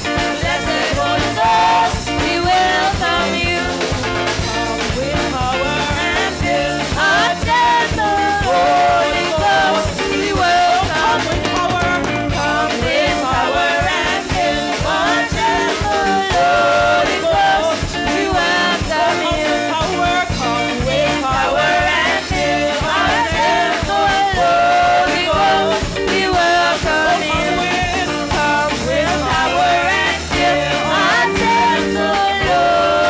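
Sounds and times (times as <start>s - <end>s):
drum kit and band playing: 0.0s - 33.0s
women singing into microphones: 0.0s - 33.0s.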